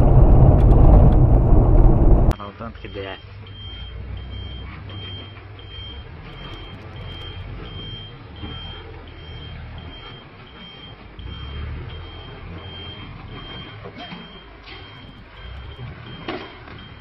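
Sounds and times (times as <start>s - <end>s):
truck engine rumble: 0.0s - 17.0s
truck reversing alarm beeping: 2.3s - 17.0s.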